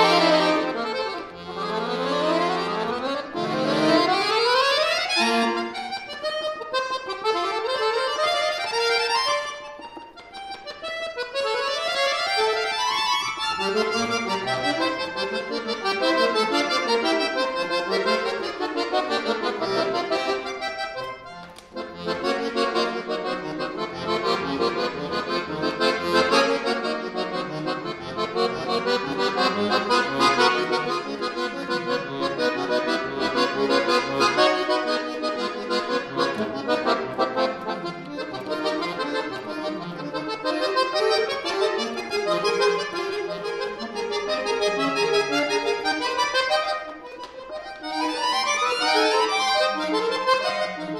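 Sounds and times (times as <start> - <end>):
accordion playing quick runs: 0.0 - 50.9.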